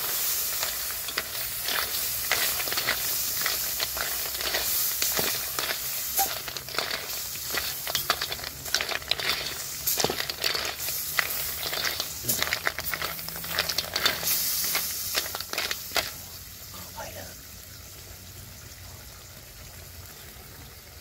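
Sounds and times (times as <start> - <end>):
food frying with crackles: 0.0 - 21.0.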